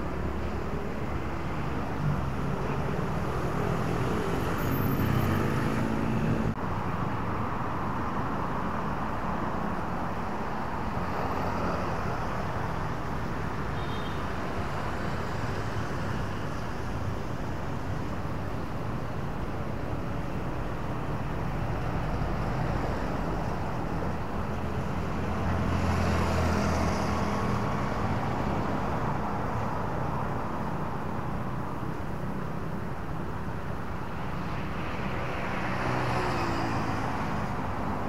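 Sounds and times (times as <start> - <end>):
road traffic: 0.0 - 38.0.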